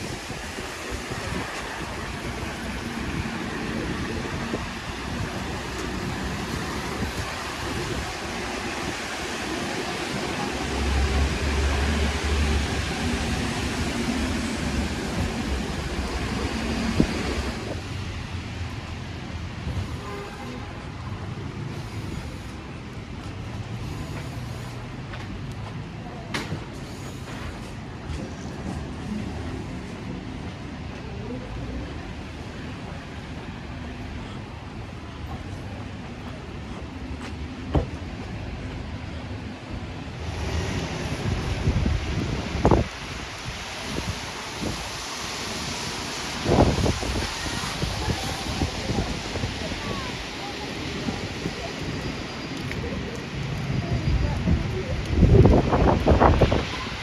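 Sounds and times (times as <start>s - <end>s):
faint passing traffic: 0.0s - 57.0s
rain hissing on wet street: 0.0s - 57.0s.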